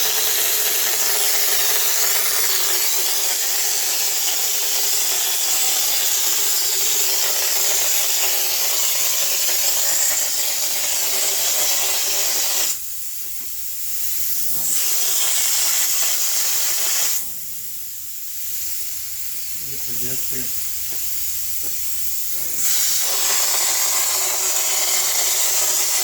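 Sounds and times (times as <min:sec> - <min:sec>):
spray gun hissing: 0:00.0 - 0:26.0.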